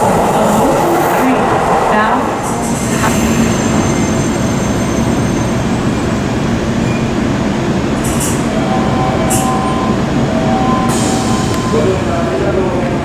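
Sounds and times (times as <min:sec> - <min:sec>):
electric trains rolling: 0:00.0 - 0:13.0.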